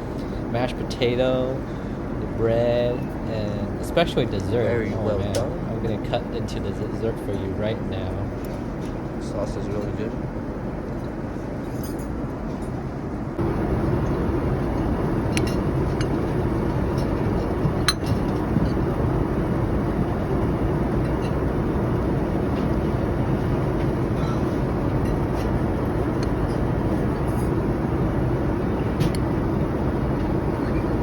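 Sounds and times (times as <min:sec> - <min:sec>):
airliner cabin noise: 0:00.0 - 0:31.0.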